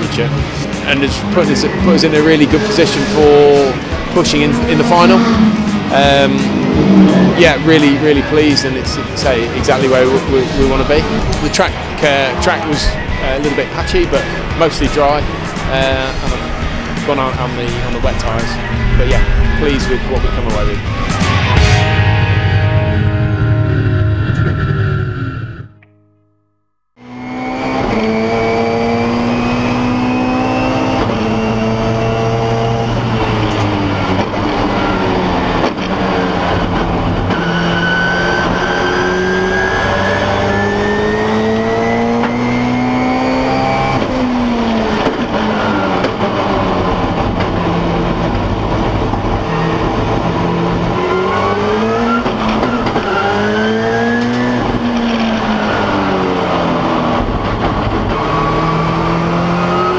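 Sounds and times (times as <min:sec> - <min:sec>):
race car engine: 0:00.0 - 0:25.8, 0:27.0 - 0:59.9.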